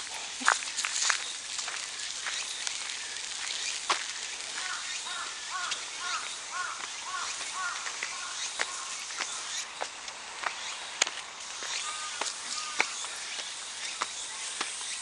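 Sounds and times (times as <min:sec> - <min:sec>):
footsteps on stone path: 0:00.0 - 0:15.0
outdoor hiss: 0:00.0 - 0:15.0.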